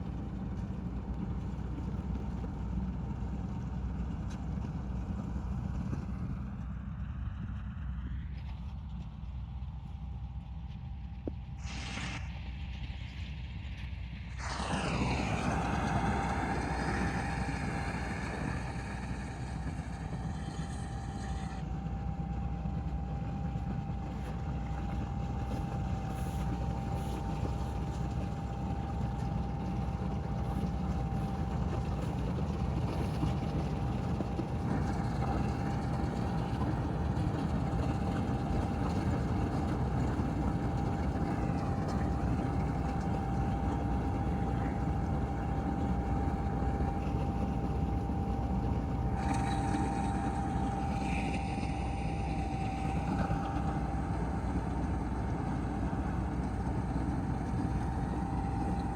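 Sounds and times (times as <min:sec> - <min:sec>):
combine harvester engine rumble: 0:00.0 - 0:58.9
high mechanical whine: 0:00.0 - 0:58.9.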